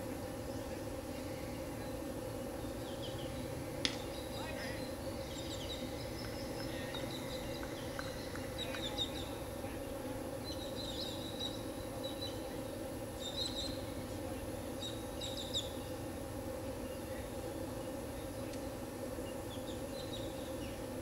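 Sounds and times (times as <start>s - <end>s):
low outdoor hum: 0.0s - 21.0s
birds chirping: 0.3s - 20.9s.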